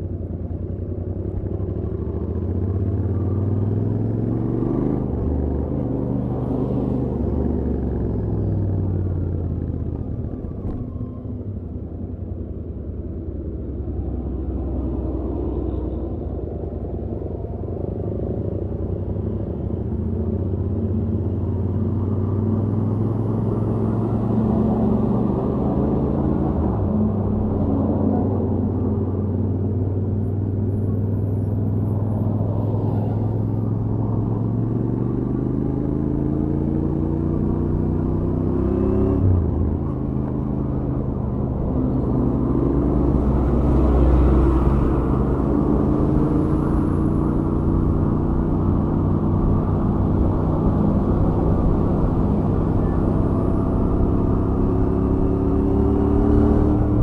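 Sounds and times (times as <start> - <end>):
motorcycle engine at speed: 0.0 - 57.0.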